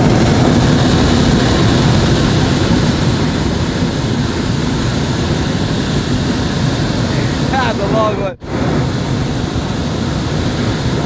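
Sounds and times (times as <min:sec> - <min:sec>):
propane burner firing: 0:00.0 - 0:11.0.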